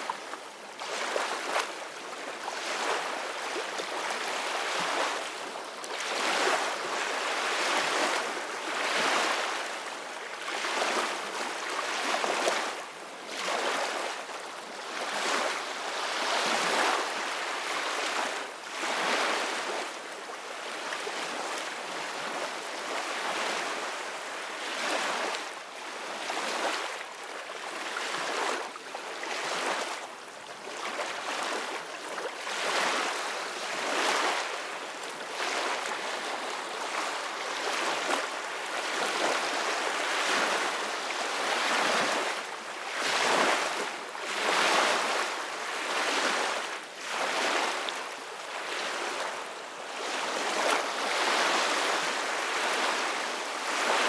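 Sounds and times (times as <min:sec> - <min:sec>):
small waves breaking: 0:00.0 - 0:54.0.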